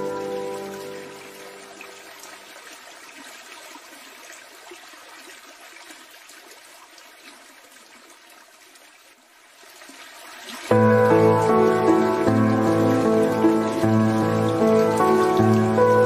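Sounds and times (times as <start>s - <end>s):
faint trickling water: 0.0s - 16.0s.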